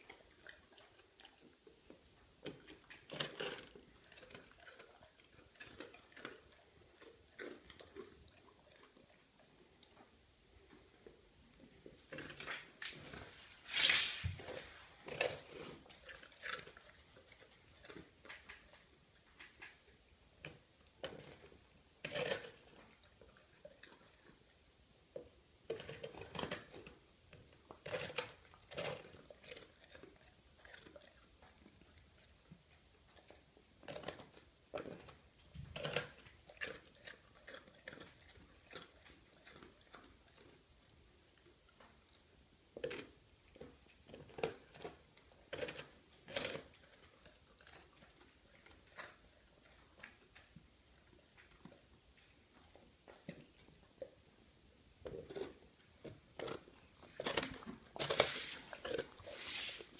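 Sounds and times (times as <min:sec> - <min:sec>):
dog crunching bread: 0:00.0 - 0:59.9.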